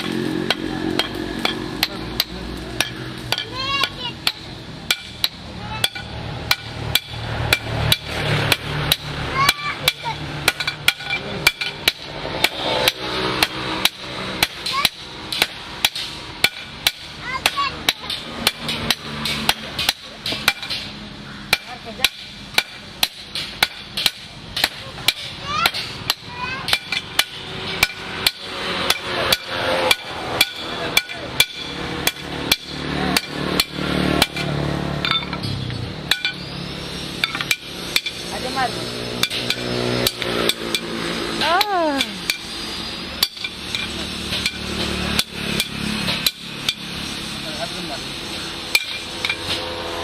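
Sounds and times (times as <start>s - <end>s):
hammer striking metal on anvil: 0.0s - 50.0s.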